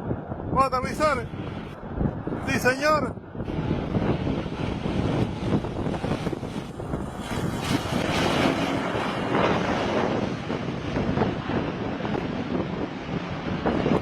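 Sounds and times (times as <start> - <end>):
light aircraft in flight: 0.0 - 14.0
wind buffeting microphone: 0.0 - 14.0.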